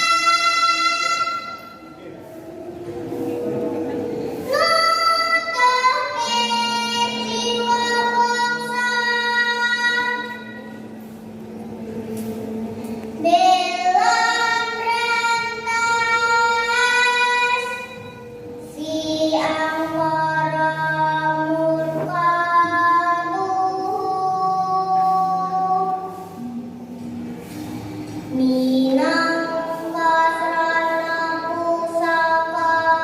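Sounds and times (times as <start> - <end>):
child singing long held notes: 0.0 - 27.2, 27.8 - 33.0.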